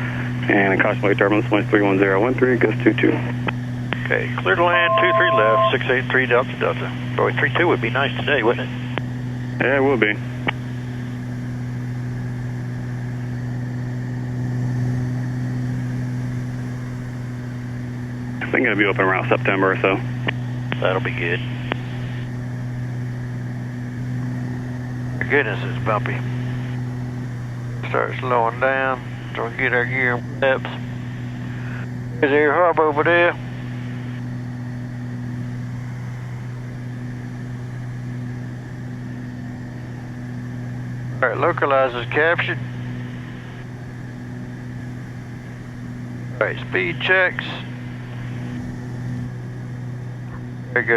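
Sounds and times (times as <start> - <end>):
aircraft engines droning: 0.0 - 50.9.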